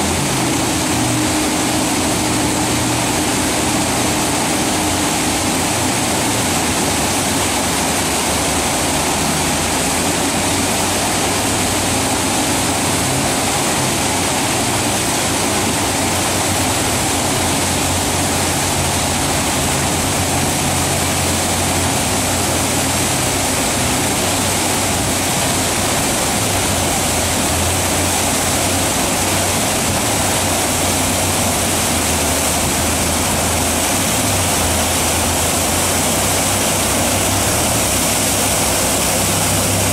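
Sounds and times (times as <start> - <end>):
boat engine droning: 0.0 - 39.9
whitewater rapids roaring: 0.0 - 39.9.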